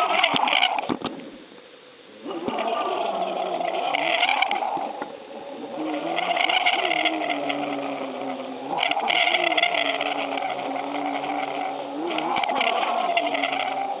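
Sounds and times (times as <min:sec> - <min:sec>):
high-pitched noise: 0:02.2 - 0:14.0
motor running with wavering pitch: 0:02.2 - 0:14.0.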